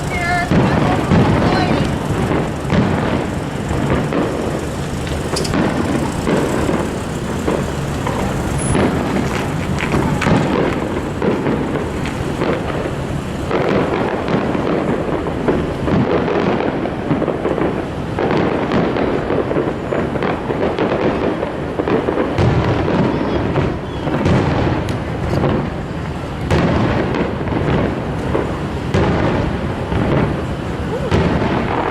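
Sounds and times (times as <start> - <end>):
fireworks booming and crackling: 0.0 - 31.9.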